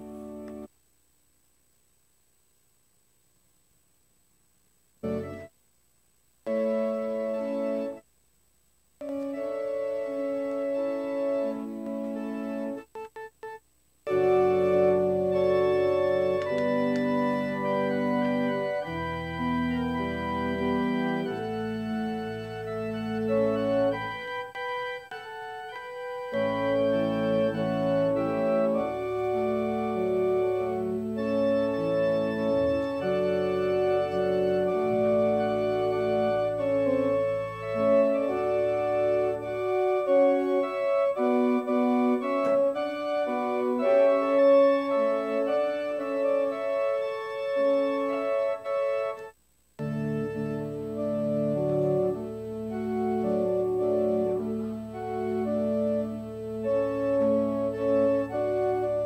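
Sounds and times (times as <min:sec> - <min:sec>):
church organ chords: 0:00.0 - 0:00.7, 0:05.0 - 0:05.5, 0:06.4 - 0:08.0, 0:08.8 - 0:59.0.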